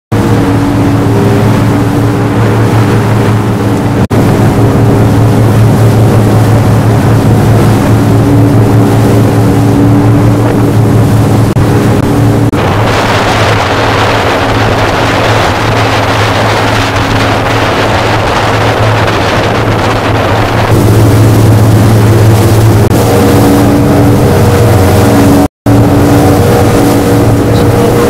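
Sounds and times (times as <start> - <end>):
motorboat engine running: 0.1 - 28.0
wind and water rushing: 0.1 - 28.0.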